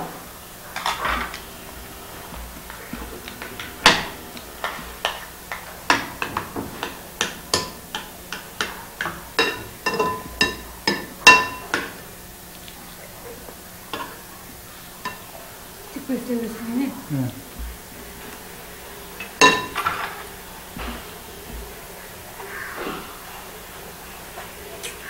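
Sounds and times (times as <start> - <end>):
utensils clinking against dishes: 0.0 - 25.0.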